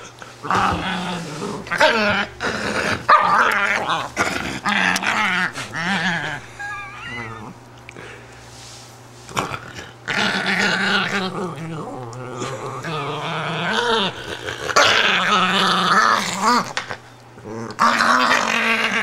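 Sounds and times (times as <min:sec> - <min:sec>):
dog growling and whining: 0:00.0 - 0:07.6, 0:09.3 - 0:19.0.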